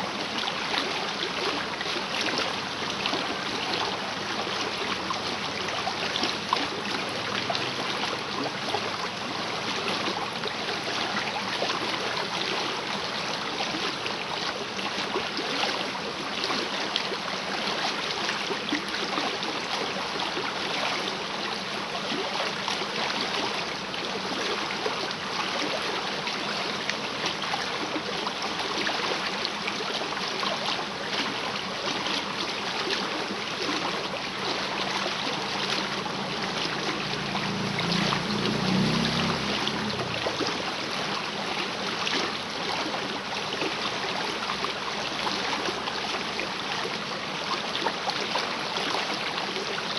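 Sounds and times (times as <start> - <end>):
river rushing and splashing: 0.0 - 49.9.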